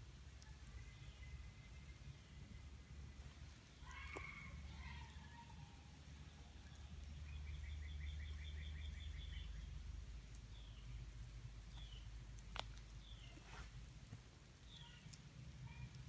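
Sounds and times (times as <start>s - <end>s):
songbird trill: 0.4s - 13.6s, 14.6s - 16.0s.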